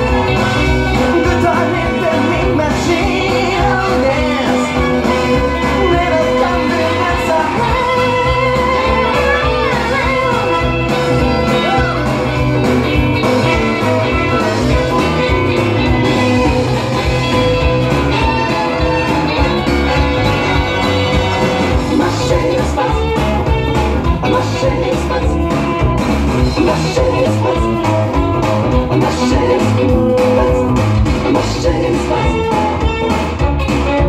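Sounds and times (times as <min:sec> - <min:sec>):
pop-rock song from vinyl record: 0:00.0 - 0:34.0.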